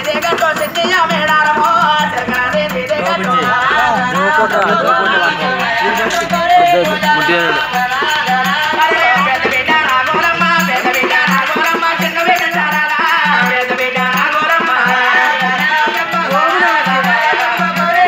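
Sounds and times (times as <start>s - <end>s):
small hand drum beat: 0.0s - 18.0s
voices singing: 0.0s - 18.0s.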